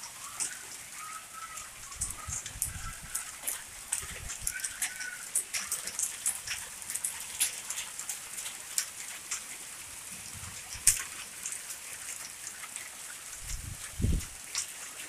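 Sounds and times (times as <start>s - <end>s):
hailstones ticking on hard surfaces: 0.0s - 15.0s.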